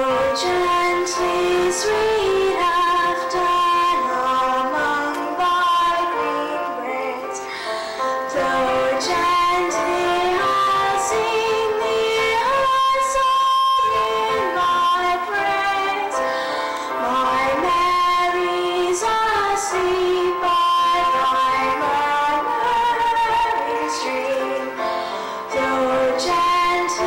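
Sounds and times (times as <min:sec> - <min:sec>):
girl singing a slow song: 0:00.0 - 0:27.0
instrumental accompaniment: 0:00.0 - 0:27.0.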